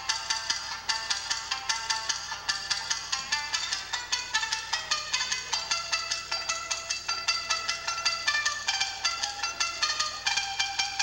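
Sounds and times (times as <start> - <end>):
shamisen played solo: 0.0 - 11.0.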